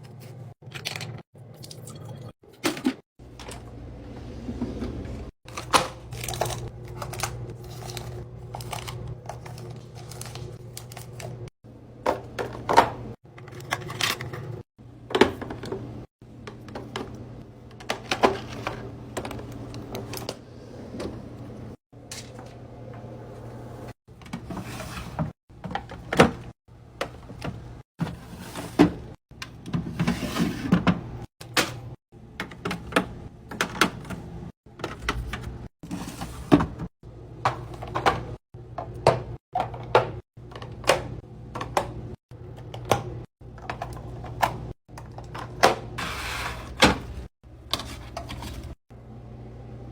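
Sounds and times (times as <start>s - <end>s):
fridge low hum: 0.0s - 49.9s
drawers and doors moving: 2.6s - 11.5s, 12.1s - 42.0s, 42.7s - 48.8s.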